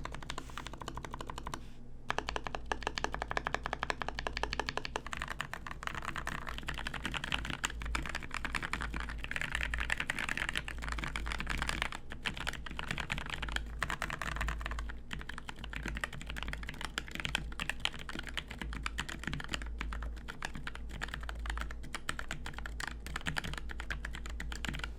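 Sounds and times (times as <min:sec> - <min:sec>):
fast typing on mechanical keyboard: 0:00.0 - 0:24.9
steady low hum: 0:00.0 - 0:24.9.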